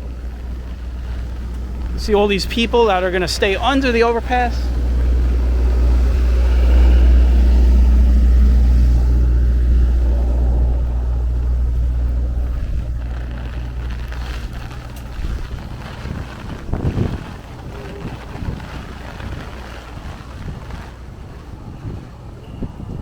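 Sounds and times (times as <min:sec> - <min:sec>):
wind gusts buffeting microphone: 0:00.0 - 0:23.0.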